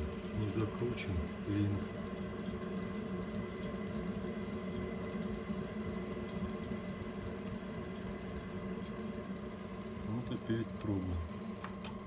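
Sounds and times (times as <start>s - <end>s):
gas boiler whir and hum: 0.0s - 12.0s.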